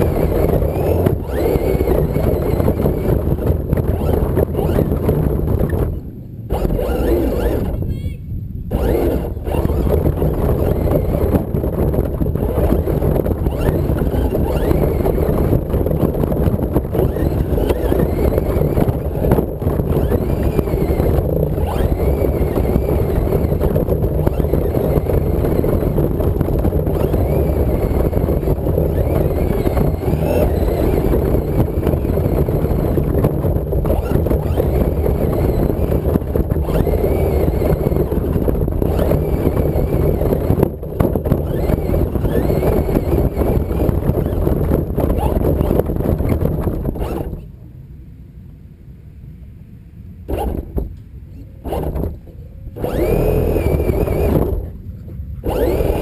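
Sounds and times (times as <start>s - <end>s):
toy truck chassis rumble: 0.0s - 8.0s, 8.7s - 47.5s, 50.3s - 56.0s
wind on microphone: 0.0s - 47.7s, 50.2s - 56.0s
faint motor whine: 0.0s - 56.0s.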